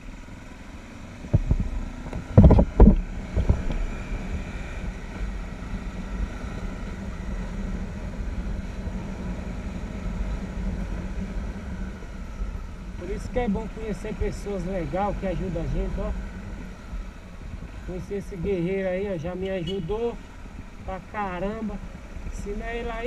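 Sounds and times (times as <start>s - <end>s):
motorcycle engine running: 0.0s - 23.0s
wind rushing over microphone: 1.1s - 23.0s.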